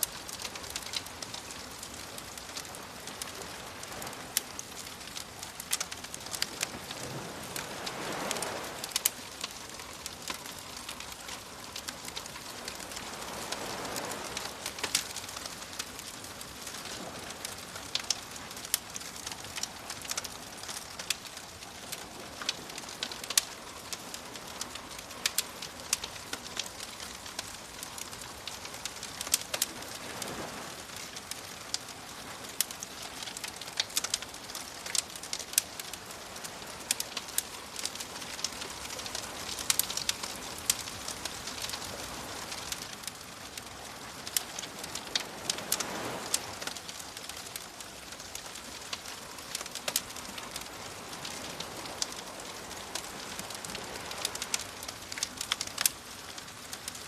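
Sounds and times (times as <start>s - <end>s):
campfire crackling and popping: 0.0s - 57.0s
ocean waves washing in: 0.0s - 57.0s.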